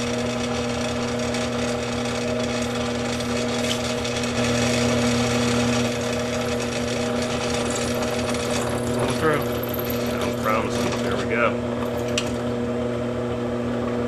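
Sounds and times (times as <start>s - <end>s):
drill press drilling steel: 0.0s - 12.5s.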